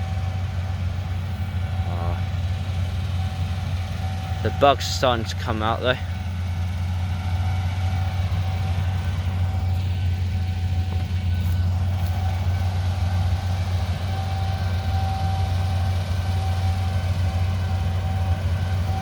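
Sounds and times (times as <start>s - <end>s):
engine idling with deep hum: 0.0s - 19.0s
faint steady whine: 0.0s - 19.0s.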